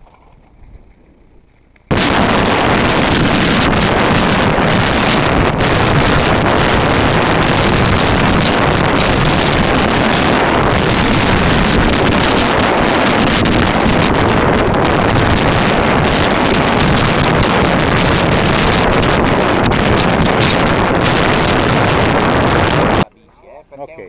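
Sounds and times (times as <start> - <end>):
low rumble of bike ride: 0.0 - 23.1
wind rushing over microphone: 1.9 - 23.1.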